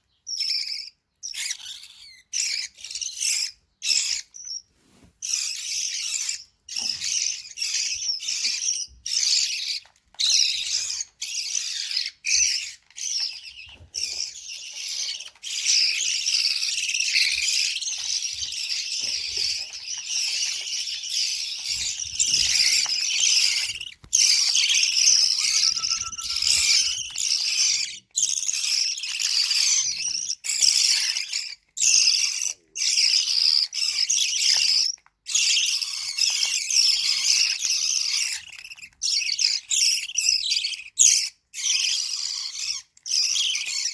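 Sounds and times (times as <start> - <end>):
bird chicks chirping and squeaking: 0.0 - 43.9.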